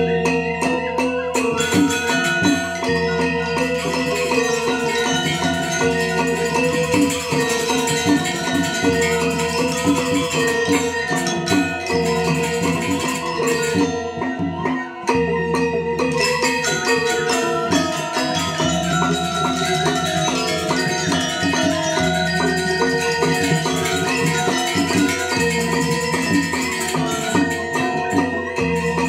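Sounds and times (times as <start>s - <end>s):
metallophones ringing: 0.0s - 29.0s.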